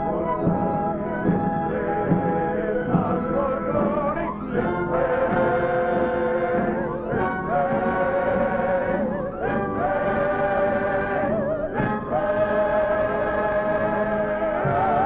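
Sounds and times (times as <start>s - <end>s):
choir singing slow mournful music: 0.0s - 15.0s.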